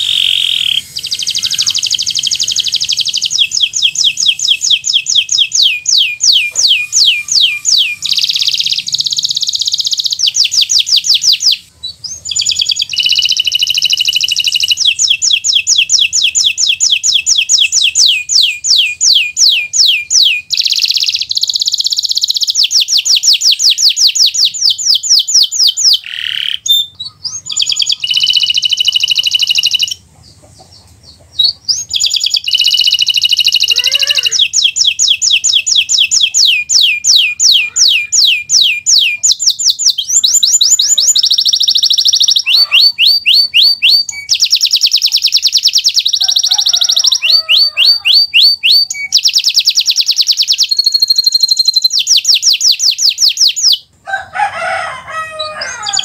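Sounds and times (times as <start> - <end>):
canary singing trills: 0.0 - 53.9, 54.6 - 56.0.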